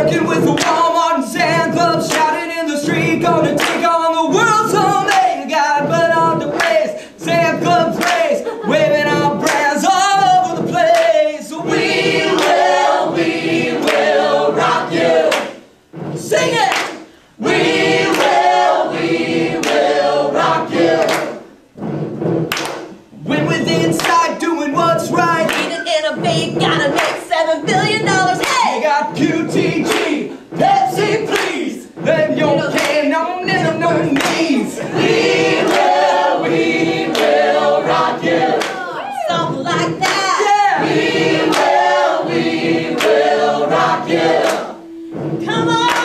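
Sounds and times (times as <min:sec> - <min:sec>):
women singing together: 0:00.0 - 0:21.7, 0:23.3 - 0:46.0
hands clapping: 0:00.0 - 0:46.0.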